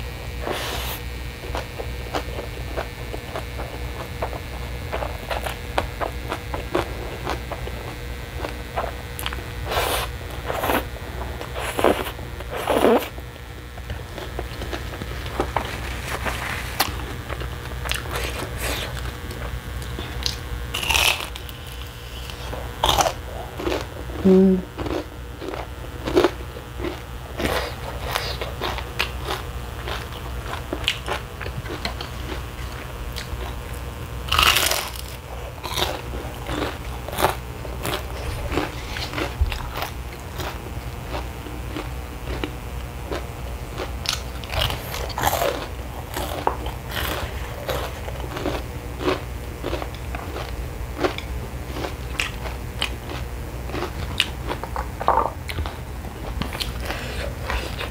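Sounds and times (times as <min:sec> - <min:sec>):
steady low hum: 0:00.0 - 0:57.9
crunchy chewing: 0:00.2 - 0:57.9.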